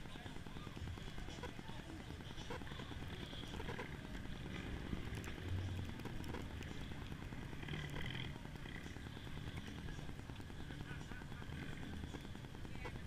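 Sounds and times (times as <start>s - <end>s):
faint low engine hum: 0.0s - 13.0s.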